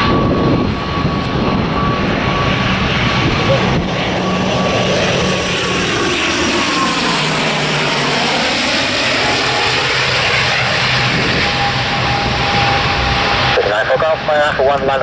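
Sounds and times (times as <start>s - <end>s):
airliner engines passing: 0.0s - 15.0s
thin steady whine: 0.0s - 15.0s.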